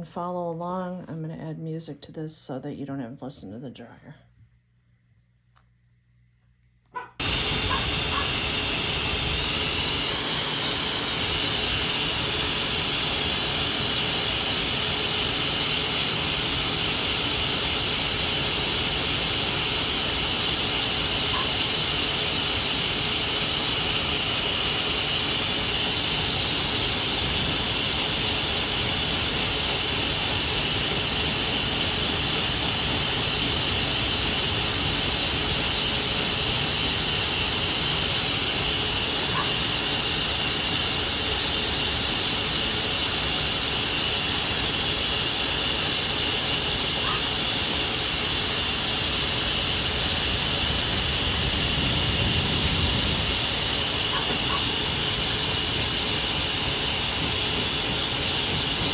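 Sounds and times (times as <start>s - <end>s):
hair dryer running: 7.2s - 58.9s.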